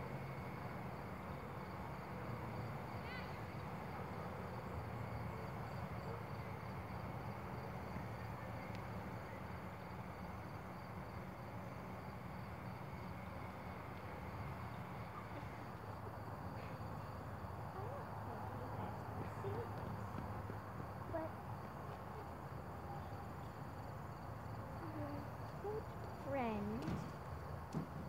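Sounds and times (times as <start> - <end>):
insect chirping: 0.1 - 28.0.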